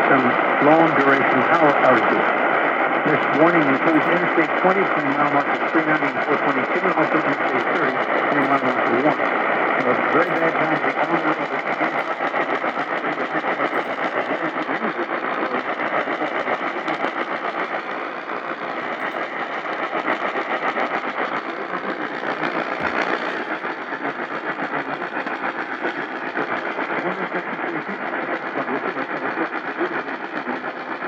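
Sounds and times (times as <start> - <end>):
radio static hiss: 0.0 - 31.0.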